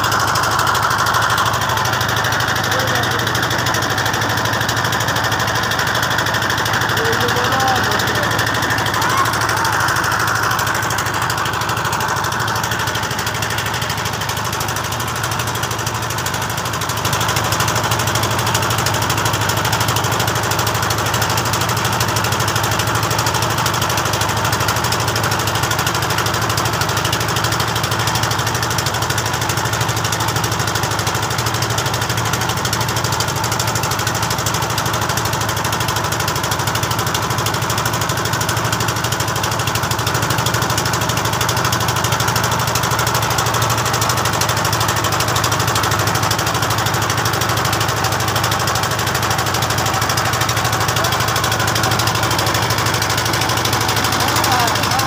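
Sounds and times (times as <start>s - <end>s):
boat engine humming: 0.0s - 24.8s, 29.6s - 55.0s.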